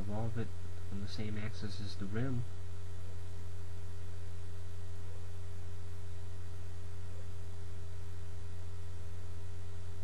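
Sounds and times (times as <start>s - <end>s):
faint hiss: 0.0s - 10.0s
low electrical hum: 0.0s - 10.0s.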